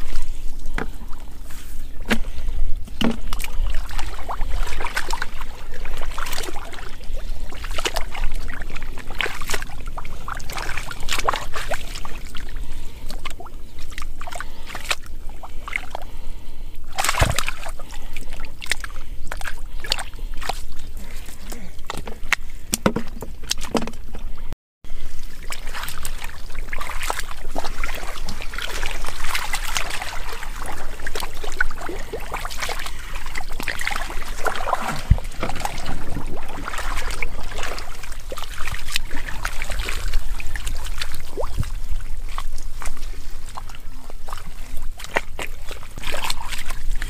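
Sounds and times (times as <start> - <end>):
splashing in muddy water: 0.0 - 47.0.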